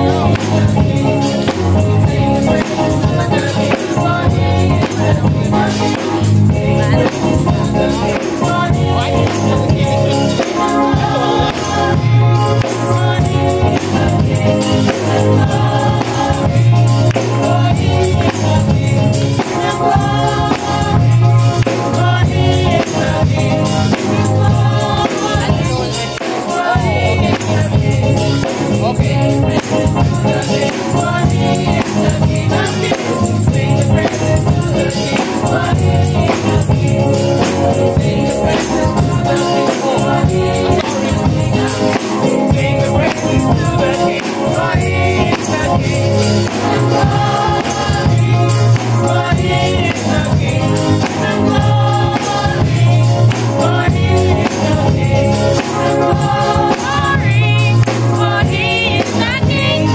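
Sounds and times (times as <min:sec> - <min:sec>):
drum kit with cymbals: 0:00.0 - 0:59.9
group singing: 0:00.0 - 0:59.9
keyboard: 0:00.0 - 0:59.9.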